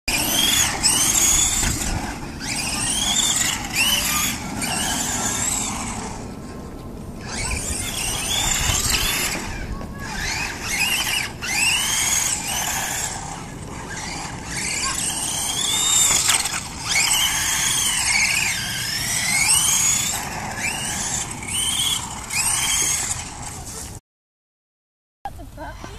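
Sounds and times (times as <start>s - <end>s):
rc truck motor and gears whining: 0.1s - 24.0s, 25.4s - 25.9s.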